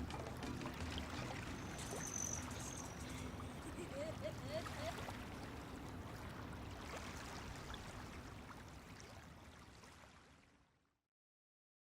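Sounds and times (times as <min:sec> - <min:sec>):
faint ambient noise: 0:00.0 - 0:10.5.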